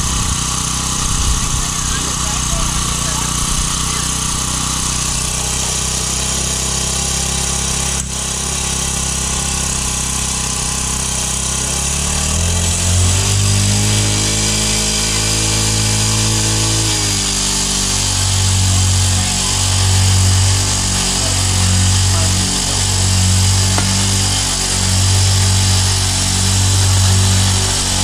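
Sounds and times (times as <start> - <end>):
small gasoline engine running: 0.0 - 28.0.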